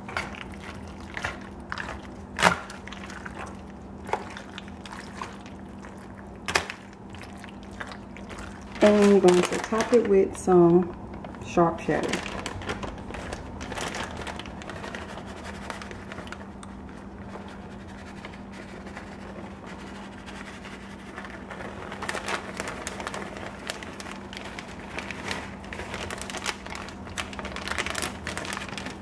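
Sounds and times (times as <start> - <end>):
plastic bag crinkling: 0.0 - 29.0.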